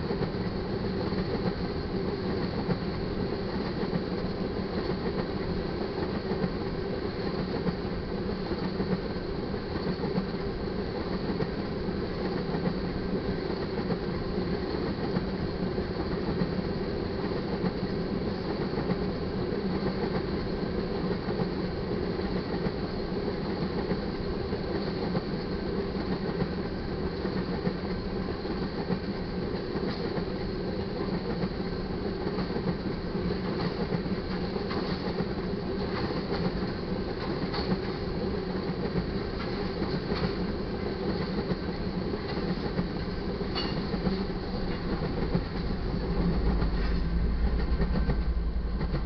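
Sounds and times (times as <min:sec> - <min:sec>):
freight train rumbling past: 0:00.0 - 0:49.0
train wheels clickety-clack: 0:00.0 - 0:49.0.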